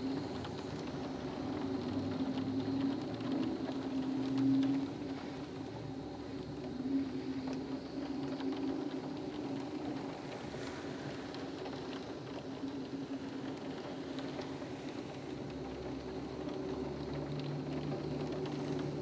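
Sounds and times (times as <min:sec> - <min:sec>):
faint ticks of raindrops: 0:00.0 - 0:19.0
wind and heavy rain: 0:00.0 - 0:19.0.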